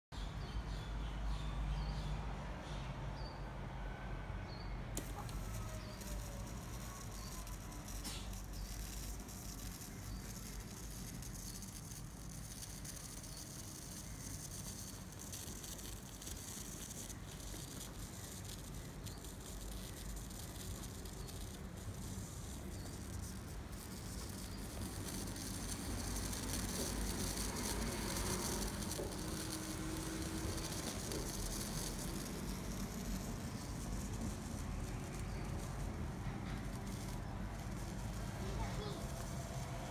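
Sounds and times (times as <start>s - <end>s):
electric arc crackling: 5.0s - 39.9s.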